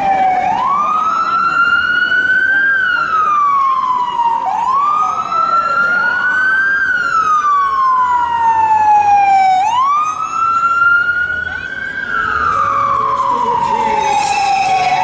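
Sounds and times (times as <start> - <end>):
other rising siren wails: 0.0 - 15.0
police siren wailing: 0.0 - 15.0.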